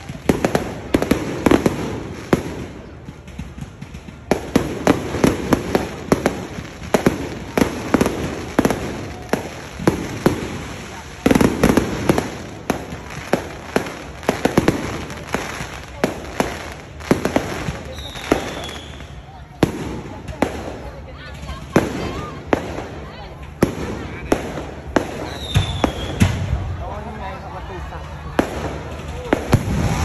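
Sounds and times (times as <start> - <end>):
fireworks bangs and crackling pops: 0.0 - 30.0.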